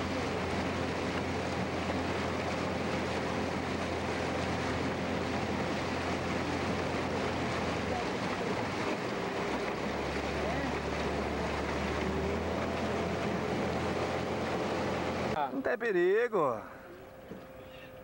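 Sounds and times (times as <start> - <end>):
outboard motor running: 0.0 - 18.0
water rushing along hull: 0.0 - 18.0.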